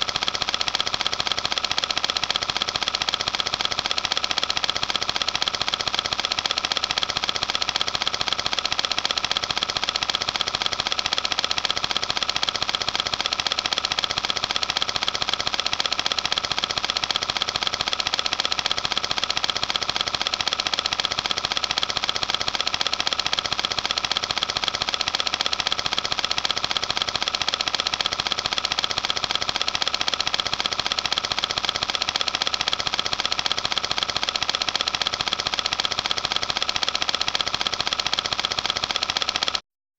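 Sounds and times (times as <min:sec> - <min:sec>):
film projector clattering: 0:00.0 - 0:39.6.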